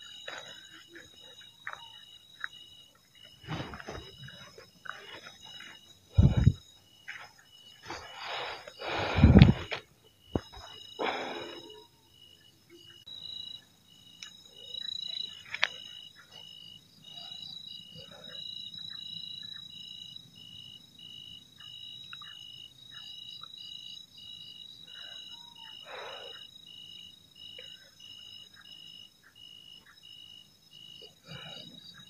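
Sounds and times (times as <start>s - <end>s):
high insect drone: 0.0s - 32.0s
insect pulsed calls: 0.0s - 32.0s.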